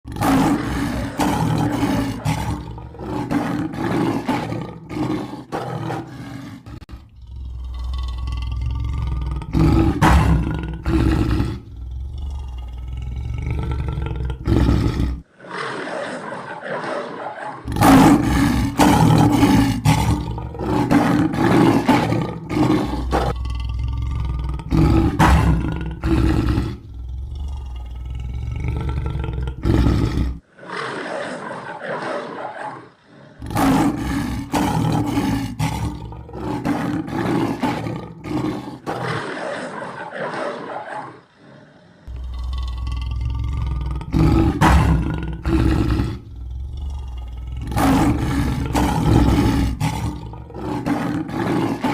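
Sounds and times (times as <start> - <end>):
lion roaring: 0.0 - 51.9.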